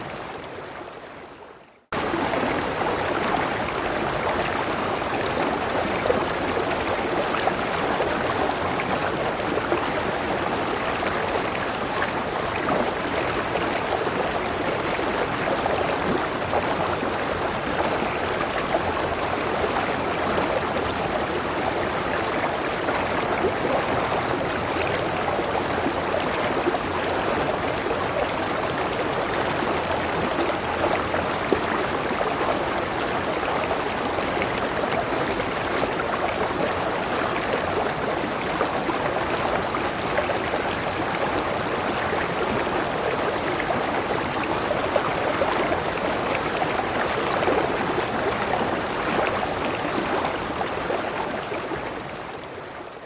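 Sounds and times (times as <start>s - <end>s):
river water rushing and babbling: 0.0s - 53.0s.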